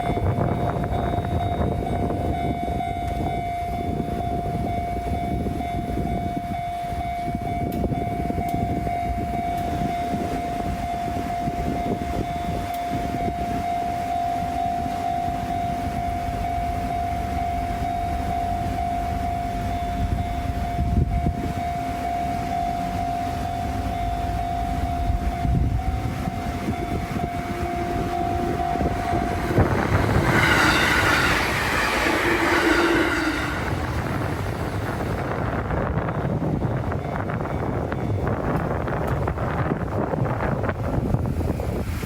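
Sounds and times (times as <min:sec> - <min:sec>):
level-crossing alarm high tone: 0:00.0 - 0:36.2
low rumble of passing train: 0:00.0 - 0:42.0.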